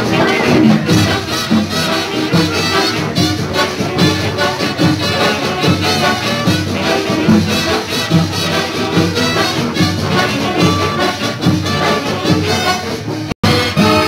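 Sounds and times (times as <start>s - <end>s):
big band brass playing upbeat tune: 0.0s - 14.0s.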